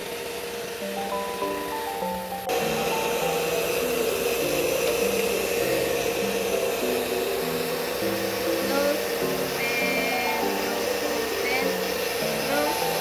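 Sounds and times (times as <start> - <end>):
hair dryer running: 0.0 - 13.0
light background music: 0.0 - 13.0.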